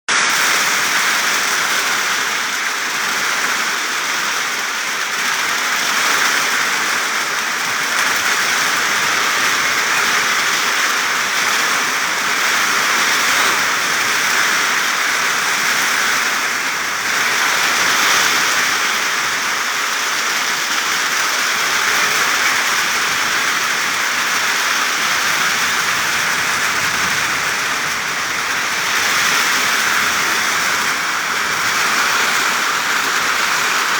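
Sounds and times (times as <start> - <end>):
rain pattering on leaves: 0.1 - 33.9.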